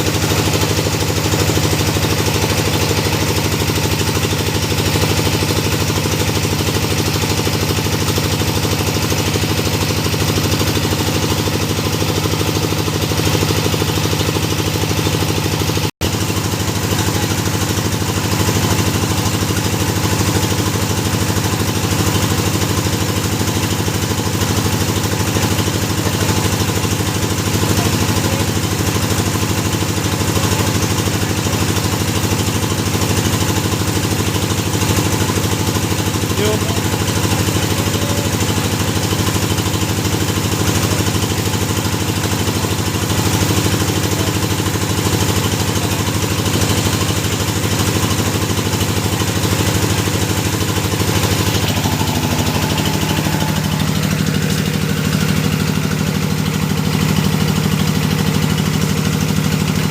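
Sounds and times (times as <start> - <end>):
drilling rig engine running: 0.0 - 59.9.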